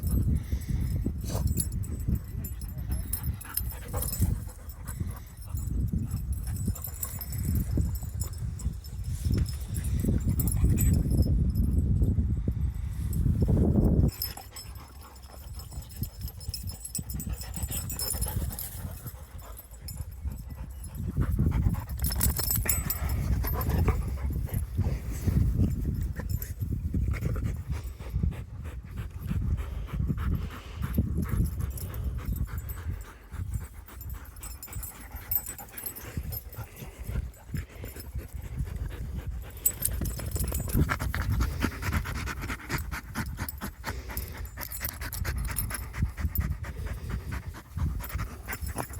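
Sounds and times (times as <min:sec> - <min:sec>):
dog panting: 0:00.0 - 0:11.7, 0:14.1 - 0:48.9.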